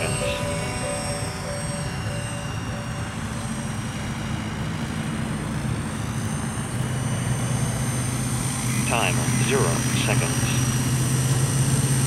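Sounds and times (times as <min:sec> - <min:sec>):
helicopter rotor drone: 0:00.0 - 0:12.0
high motor whine: 0:00.0 - 0:12.0.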